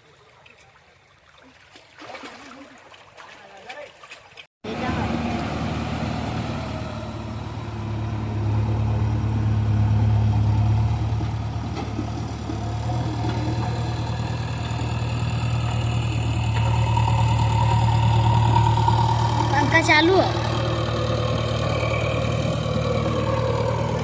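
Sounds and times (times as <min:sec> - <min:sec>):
diesel engine idling: 0:04.7 - 0:24.0.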